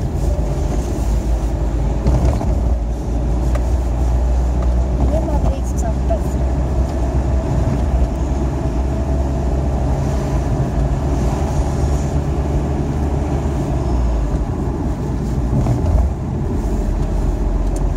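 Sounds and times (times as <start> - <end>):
car engine and road noise: 0.0 - 17.9.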